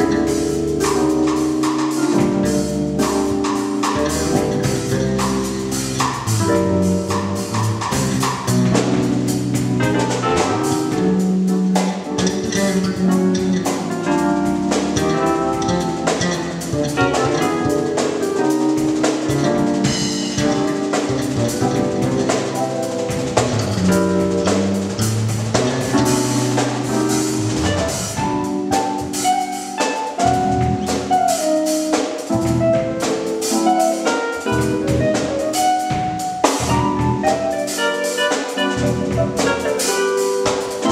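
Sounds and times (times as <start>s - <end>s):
drum kit with snare and rimshots: 0.0s - 40.9s
gospel band playing: 0.0s - 40.9s
sustained bass and keyboard: 0.0s - 40.9s.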